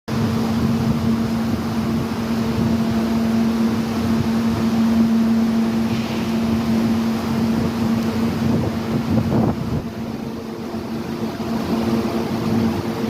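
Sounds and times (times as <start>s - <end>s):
machine humming: 0.1s - 13.0s
heavy rain hissing: 0.3s - 13.0s.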